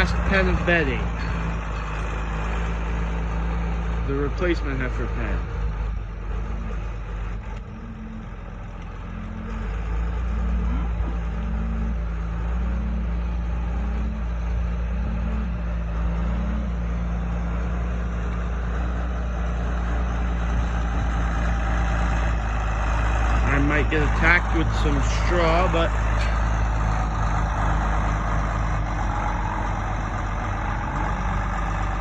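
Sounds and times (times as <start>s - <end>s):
pulsing low hum: 0.0s - 32.0s
tractor engine drone: 0.0s - 32.0s.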